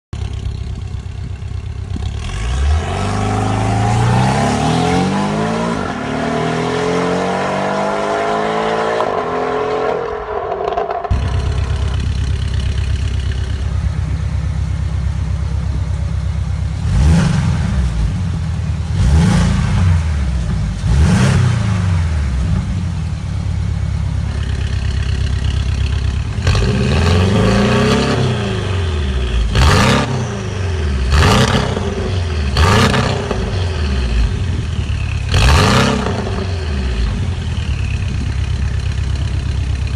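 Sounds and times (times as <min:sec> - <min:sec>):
car engine revving: 0:01.8 - 0:14.3, 0:16.7 - 0:39.9.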